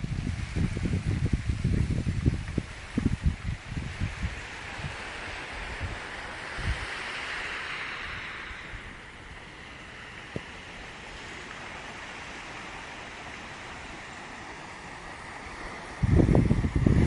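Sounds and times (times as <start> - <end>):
waves breaking on shore: 0.0 - 17.0
wind gust on microphone: 0.0 - 17.0.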